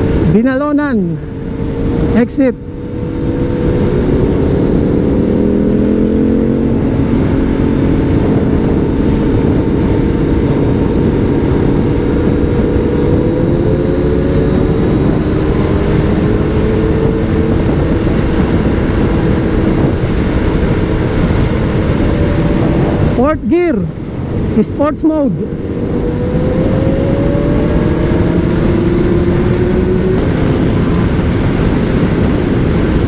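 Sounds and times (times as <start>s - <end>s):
motorcycle engine cruising: 0.0s - 33.0s
wind rush on microphone: 0.0s - 33.0s.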